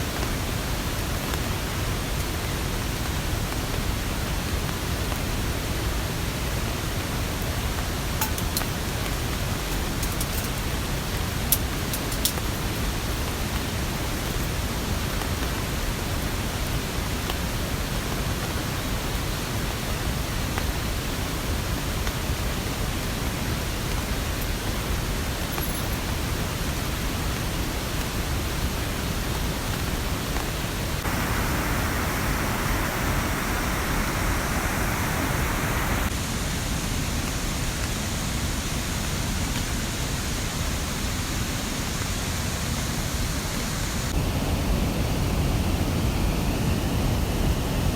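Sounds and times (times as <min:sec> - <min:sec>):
water rushing: 0:00.0 - 0:39.4.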